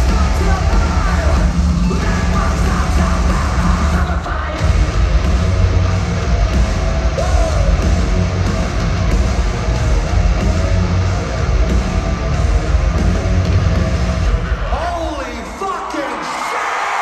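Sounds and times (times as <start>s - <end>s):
heavy metal band playing live: 0.0s - 16.5s.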